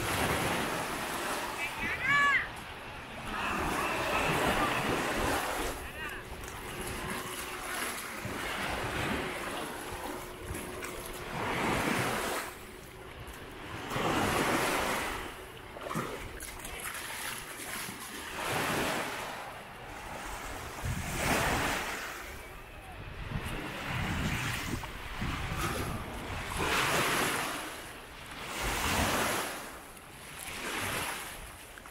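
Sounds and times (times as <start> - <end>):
sea waves breaking on beach: 0.0 - 31.9.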